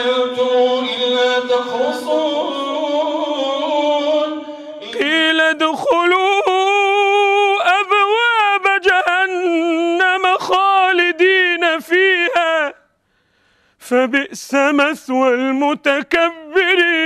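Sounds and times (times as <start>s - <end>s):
man chanting recitation: 0.0s - 12.9s, 13.8s - 17.0s
man reciting with wavering notes: 0.0s - 13.2s, 13.8s - 17.0s.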